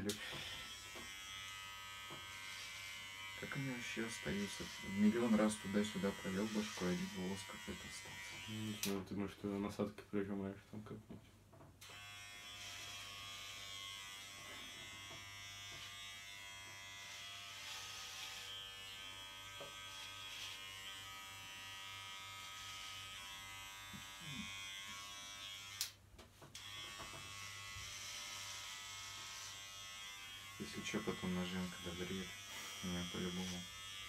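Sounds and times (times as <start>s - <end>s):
electric hair clipper buzzing: 0.0s - 9.0s, 11.8s - 34.0s.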